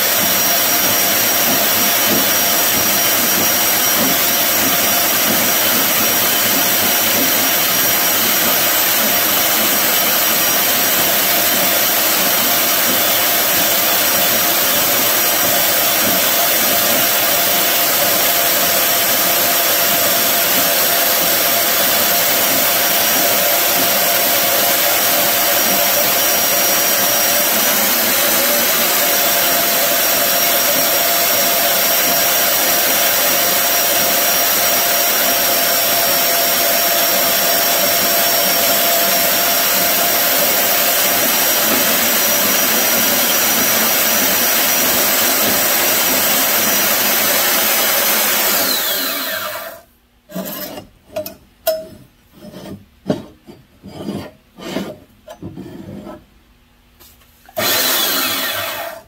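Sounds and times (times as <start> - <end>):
band saw cutting metal: 0.0 - 50.9, 57.6 - 59.0.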